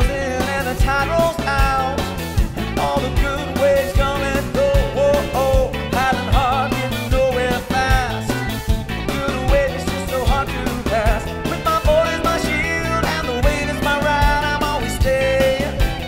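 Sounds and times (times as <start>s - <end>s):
bass and guitar: 0.0s - 16.0s
drum beat: 0.0s - 16.0s
person singing: 0.0s - 16.0s.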